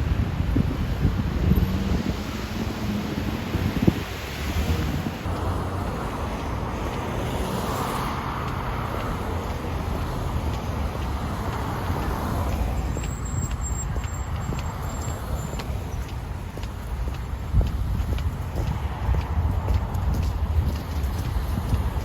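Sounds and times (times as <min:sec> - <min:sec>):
low traffic rumble: 0:00.0 - 0:22.0
vehicle passing by: 0:00.0 - 0:22.0.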